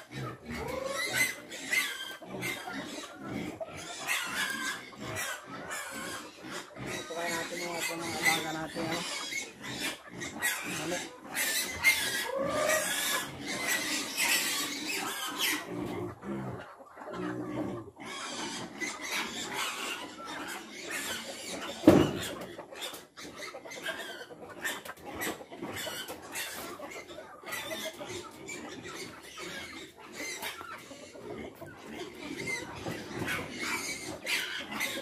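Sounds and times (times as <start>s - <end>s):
piglets squealing and grunting: 0.0s - 35.0s.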